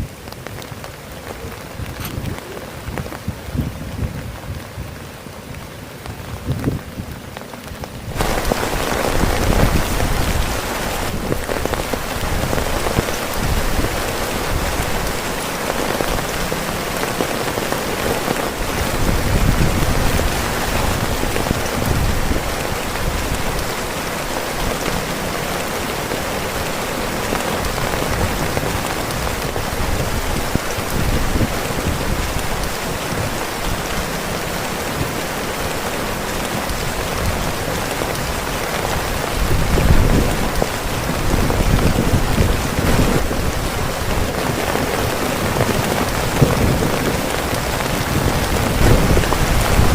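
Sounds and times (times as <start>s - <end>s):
heavy rain on a tent: 0.0s - 49.9s.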